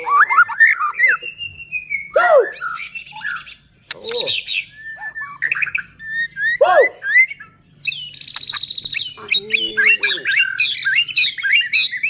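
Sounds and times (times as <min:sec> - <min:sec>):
bird singing whistled notes: 0:00.0 - 0:12.0
lower arched bird call: 0:00.0 - 0:12.0.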